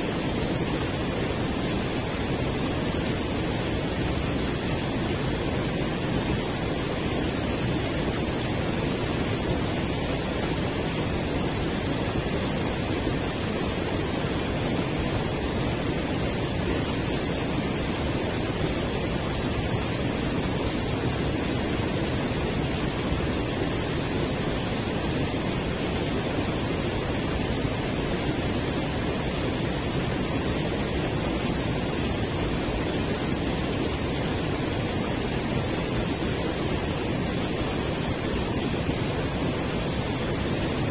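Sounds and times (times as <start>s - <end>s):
river water rushing over weir: 0.0s - 40.9s.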